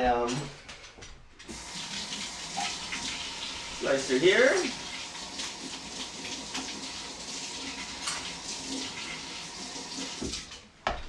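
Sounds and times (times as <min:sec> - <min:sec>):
water running from a tap: 0:01.5 - 0:10.6.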